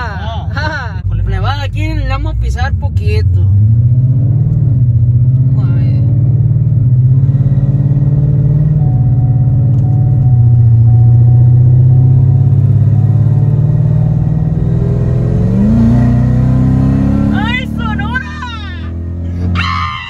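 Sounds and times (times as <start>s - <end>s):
car engine drone from cabin: 0.0s - 20.0s.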